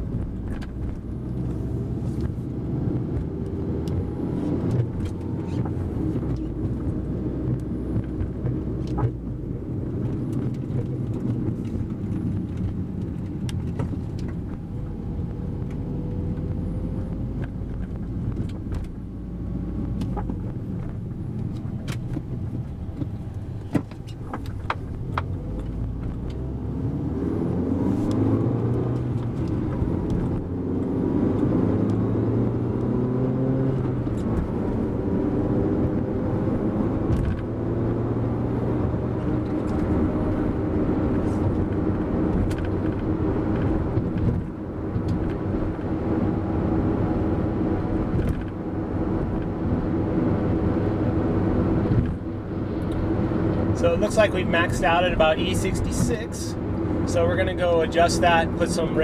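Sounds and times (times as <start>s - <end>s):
car engine accelerating: 0.0s - 59.0s
road noise: 0.0s - 59.0s.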